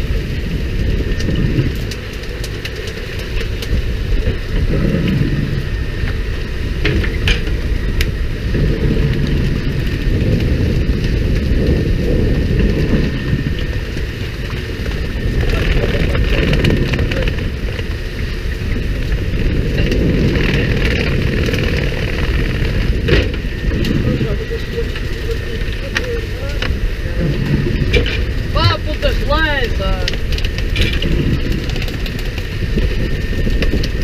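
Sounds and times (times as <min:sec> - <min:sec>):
boat engine: 0:00.0 - 0:34.0
wind on microphone: 0:00.0 - 0:34.0.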